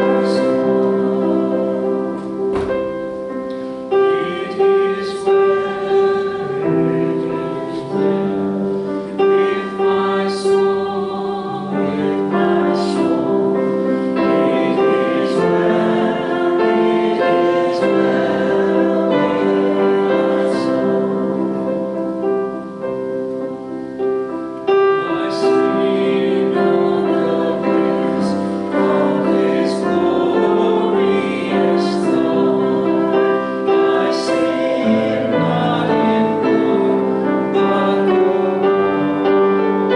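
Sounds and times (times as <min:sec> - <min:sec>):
congregation singing a hymn: 0:00.0 - 0:39.9
piano accompaniment: 0:00.0 - 0:39.9.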